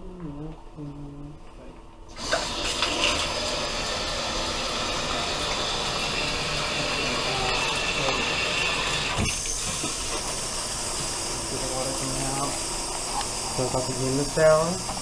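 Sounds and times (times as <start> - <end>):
shower water running: 2.1 - 15.0.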